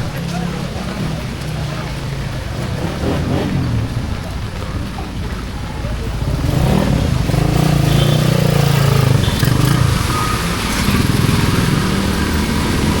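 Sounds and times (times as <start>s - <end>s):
heavy rain on the street: 0.0s - 13.0s.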